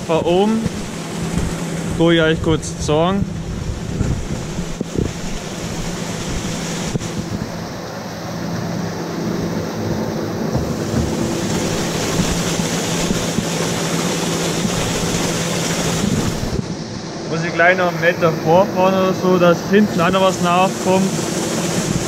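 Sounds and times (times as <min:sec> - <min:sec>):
motor hum: 0:00.0 - 0:22.0.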